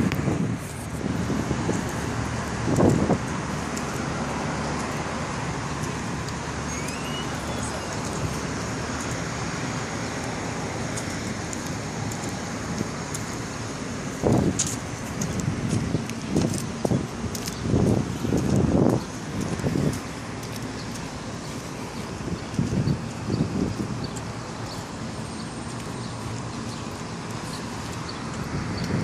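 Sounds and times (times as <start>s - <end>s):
passing cars: 0.0s - 29.0s.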